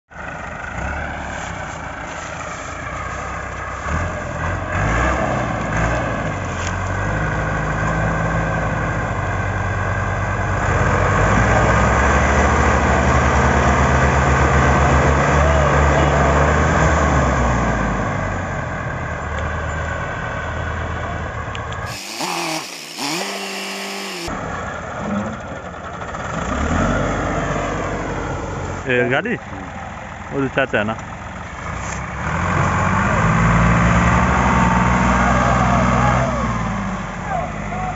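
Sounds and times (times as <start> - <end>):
diesel tractor engines running: 0.1 - 37.9.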